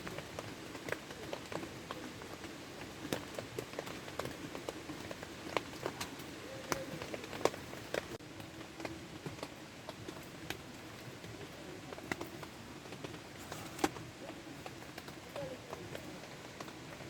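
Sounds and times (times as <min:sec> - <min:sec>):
rain drops pattering: 0:00.0 - 0:17.0.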